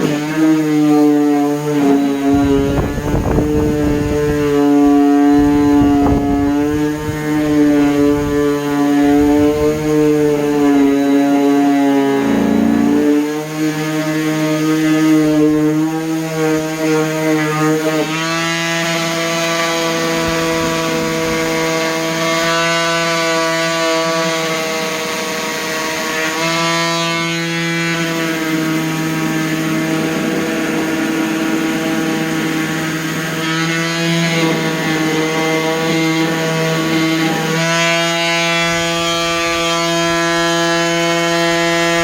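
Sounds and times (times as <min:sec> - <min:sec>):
orbital sander motor hum: 0:00.0 - 0:42.0.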